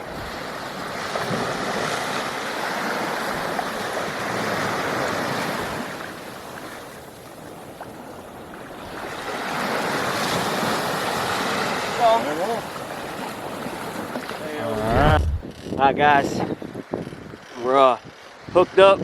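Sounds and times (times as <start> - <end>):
surf washing on beach: 0.0 - 16.8.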